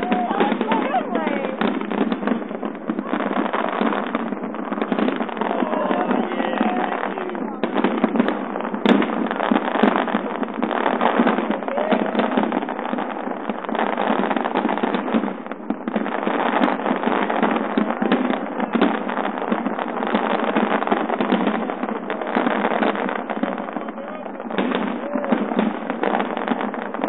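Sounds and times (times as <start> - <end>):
fireworks bursting and crackling: 0.0 - 27.0.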